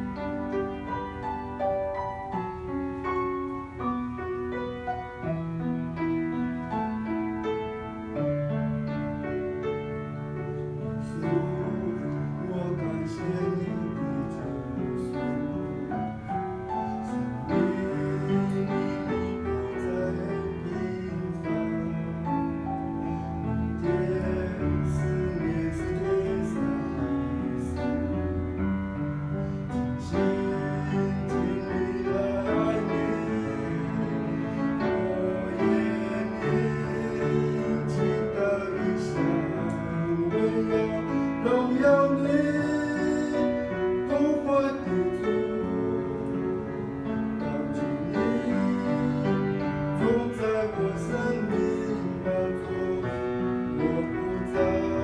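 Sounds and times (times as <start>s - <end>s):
piano hymn accompaniment: 0.0s - 55.0s.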